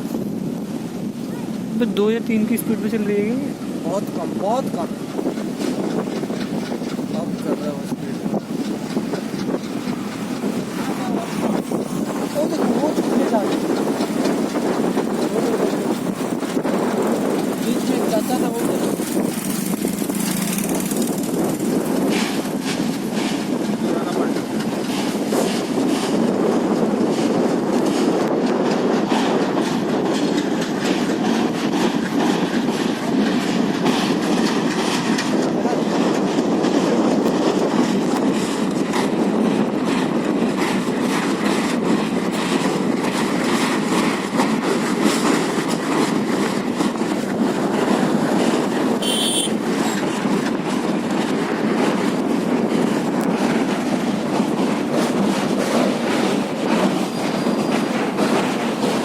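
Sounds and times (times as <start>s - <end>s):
train wheels rumbling on rails: 0.0s - 59.0s
clicking from rail joints: 4.6s - 59.0s.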